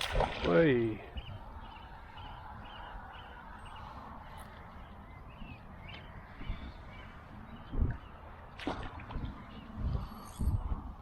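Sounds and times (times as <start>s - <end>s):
steady outdoor hiss: 0.0s - 11.0s
birds chirping faintly: 0.6s - 10.5s.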